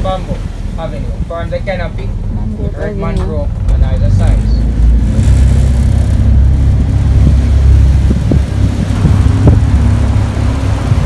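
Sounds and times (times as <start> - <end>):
boat motor rumbling: 0.0 - 11.0
wind buffeting microphone: 0.0 - 11.0.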